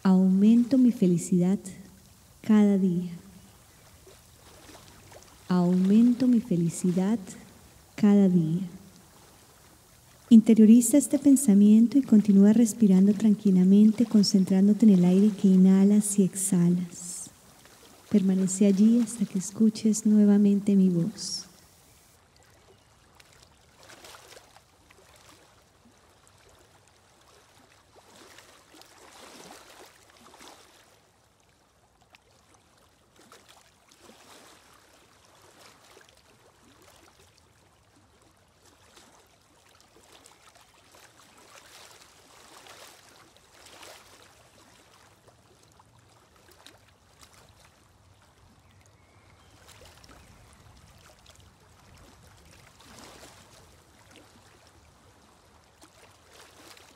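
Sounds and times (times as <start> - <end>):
faint running water: 0.0 - 56.9.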